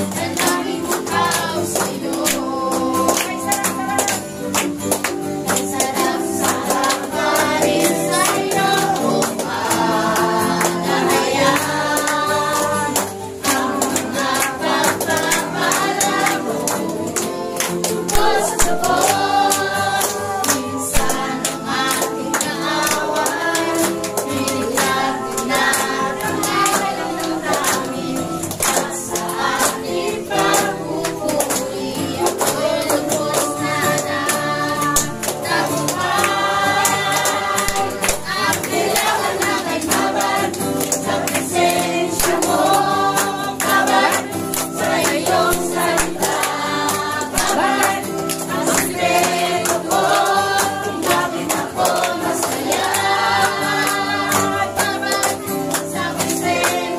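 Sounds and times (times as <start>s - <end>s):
congregation singing: 0.0s - 56.9s
hands clapping: 0.0s - 56.9s
musical accompaniment: 0.0s - 56.9s.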